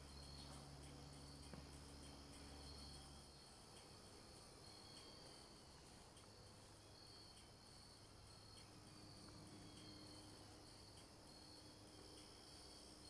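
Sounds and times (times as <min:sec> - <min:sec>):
faint insects chirping: 0:00.0 - 0:13.0.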